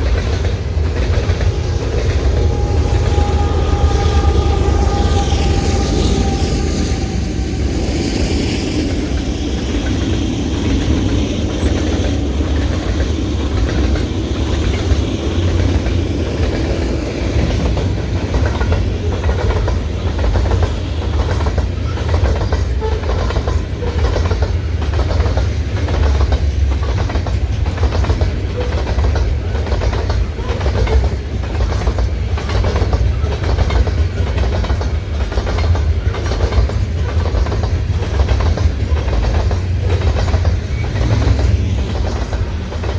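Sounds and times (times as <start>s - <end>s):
freight train rumbling past: 0.0s - 42.9s
train wheels clicking over rail joints: 0.0s - 42.9s.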